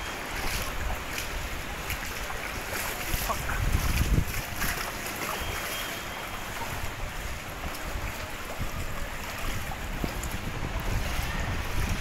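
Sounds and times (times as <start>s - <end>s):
wind buffeting microphone: 0.0s - 5.6s, 6.3s - 12.0s
floodwater lapping and sloshing: 0.0s - 12.0s.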